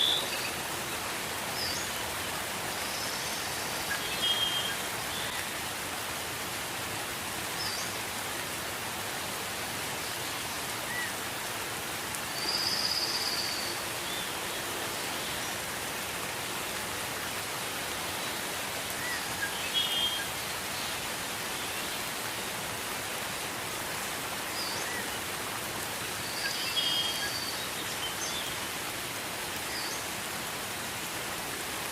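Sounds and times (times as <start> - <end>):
gentle rain hiss: 0.0 - 31.9.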